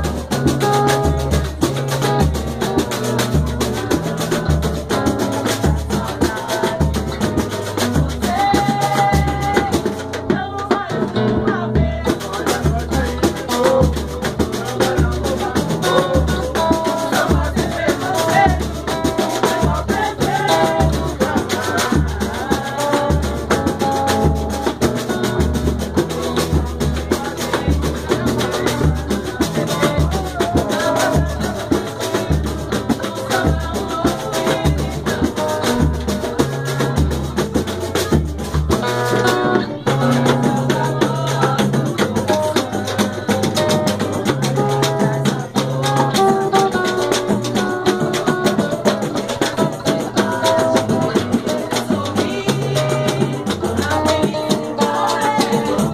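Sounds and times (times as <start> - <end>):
samba percussion drumbeat: 0.0 - 55.9.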